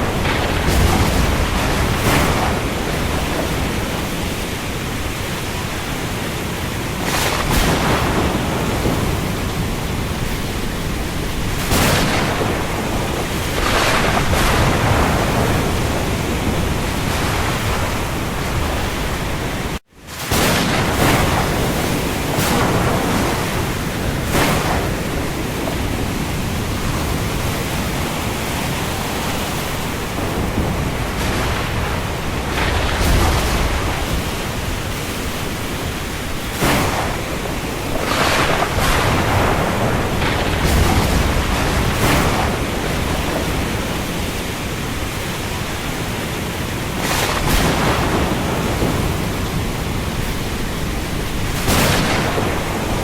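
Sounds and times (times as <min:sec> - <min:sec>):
heavy rain: 0:00.0 - 0:53.0
waves: 0:00.0 - 0:53.0.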